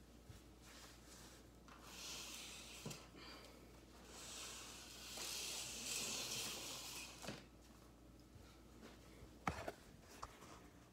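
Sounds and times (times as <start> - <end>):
faint rustling hiss: 0.0 - 10.9.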